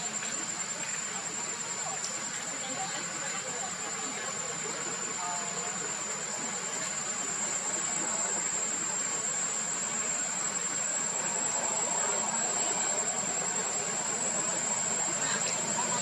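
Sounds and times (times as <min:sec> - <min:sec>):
background hiss: 0:00.0 - 0:16.0
high-pitched insect drone: 0:00.0 - 0:16.0.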